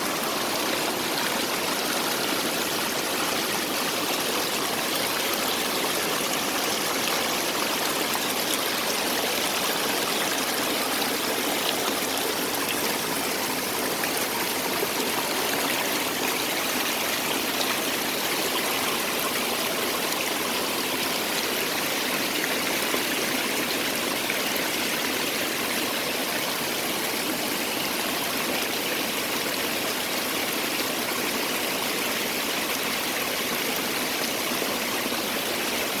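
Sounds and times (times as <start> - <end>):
small waterfall rushing and splashing: 0.0 - 36.0.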